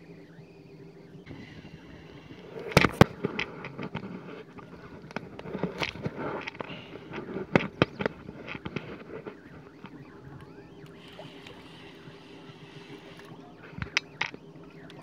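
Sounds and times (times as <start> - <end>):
faint low hum: 0.0 - 15.0
sharp irregular clicks and knocks: 2.0 - 15.0.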